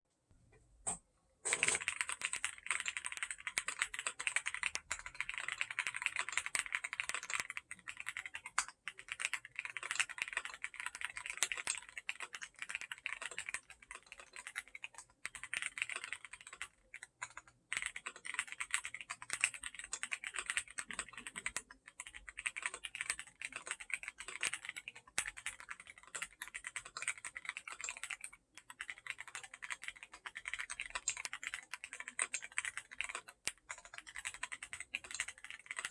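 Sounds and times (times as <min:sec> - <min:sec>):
mechanical keyboard typing: 0:00.9 - 0:35.9.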